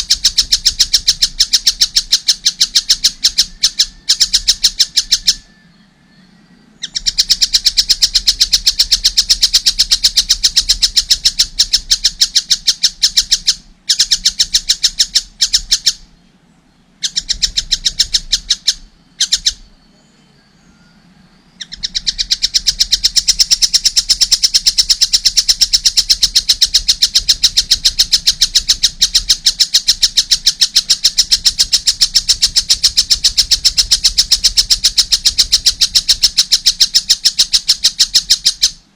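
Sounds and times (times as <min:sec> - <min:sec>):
young kingfisher calling: 0:00.0 - 0:38.9.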